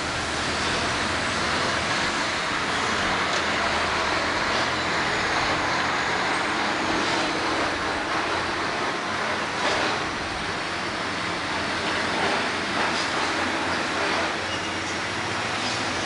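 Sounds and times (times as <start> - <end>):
vehicle driving slowly: 0.0 - 16.0.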